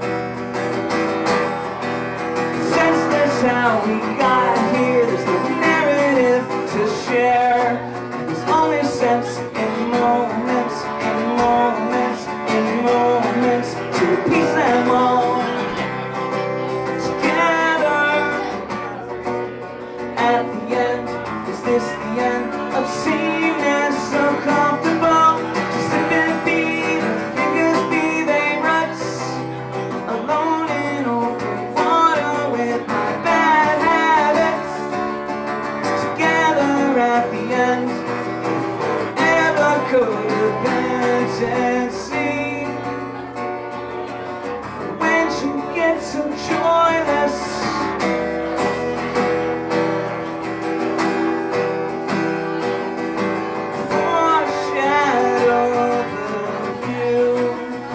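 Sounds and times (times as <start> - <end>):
man singing: 0.0 - 50.2, 50.9 - 57.9
acoustic guitar: 0.0 - 57.9.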